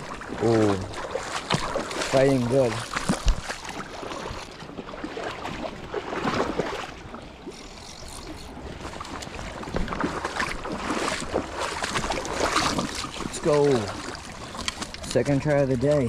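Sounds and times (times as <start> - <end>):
fishing gear clicks and rustles: 0.0 - 4.6, 7.4 - 16.0
creek water splashing: 0.0 - 16.0.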